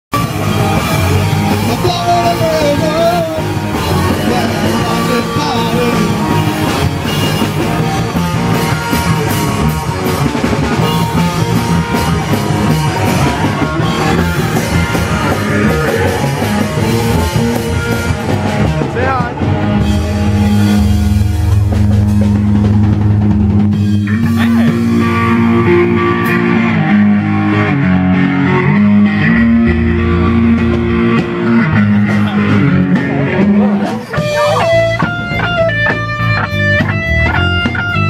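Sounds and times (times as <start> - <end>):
drum kit: 0.1 - 38.0
electric guitars: 0.1 - 38.0.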